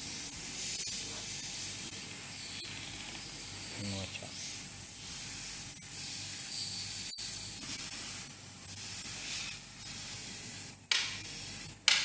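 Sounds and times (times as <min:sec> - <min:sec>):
airbrush hissing: 0:00.0 - 0:12.0.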